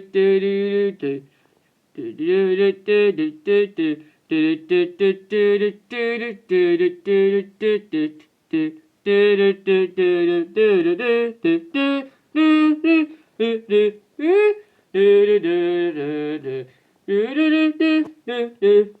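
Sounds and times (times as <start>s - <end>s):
two people humming a tune: 0.0s - 1.3s, 2.0s - 19.0s.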